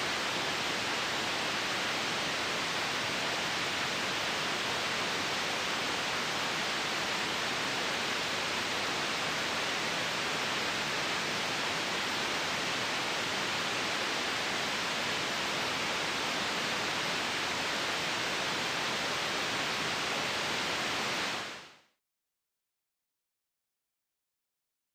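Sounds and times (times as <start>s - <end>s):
steady white noise hiss: 0.0s - 22.0s.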